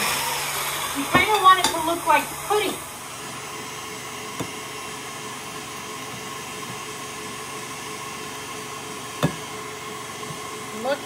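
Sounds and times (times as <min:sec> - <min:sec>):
electric mixer whirring: 0:00.0 - 0:11.0.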